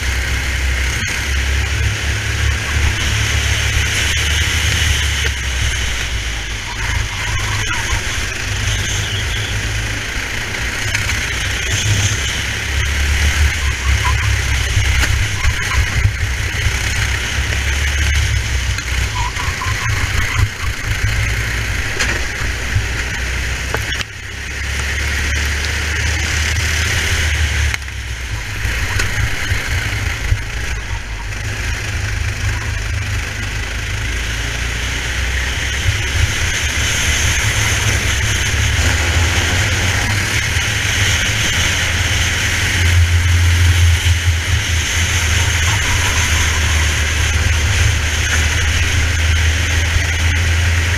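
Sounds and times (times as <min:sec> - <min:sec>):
kart engine running at speed: 0:00.0 - 0:50.9.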